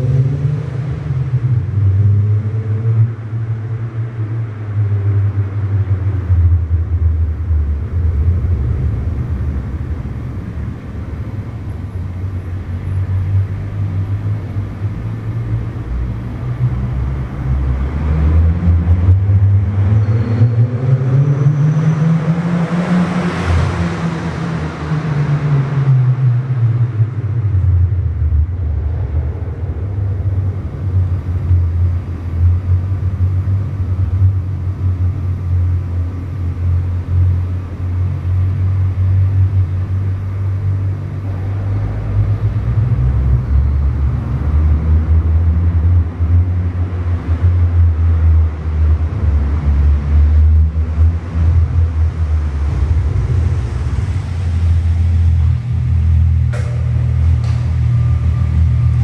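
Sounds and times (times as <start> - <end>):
car exhaust rumble: 0.0 - 59.0.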